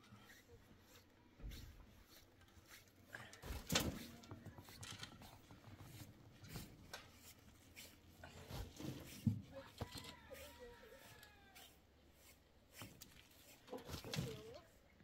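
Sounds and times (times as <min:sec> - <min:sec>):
shovels scraping stony ground: 0:02.0 - 0:14.8.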